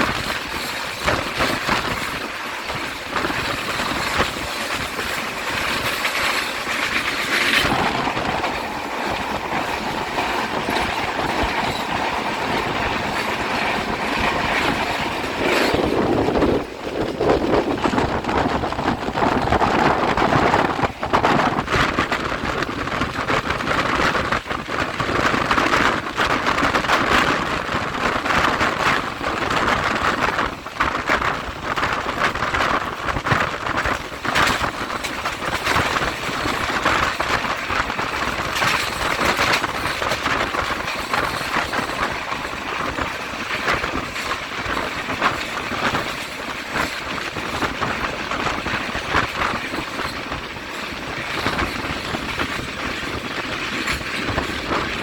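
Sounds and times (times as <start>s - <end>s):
rail clicks and clacks: 0.0s - 55.0s
train wheels on rails: 0.0s - 55.0s.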